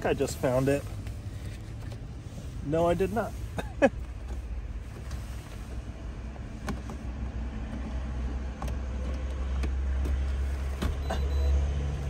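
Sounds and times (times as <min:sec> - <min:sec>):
low car rumble: 0:00.0 - 0:12.0.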